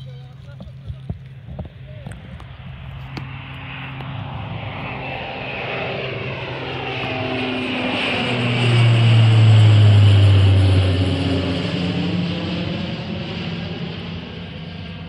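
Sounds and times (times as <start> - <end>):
turboprop plane climbing: 0.1 - 15.0.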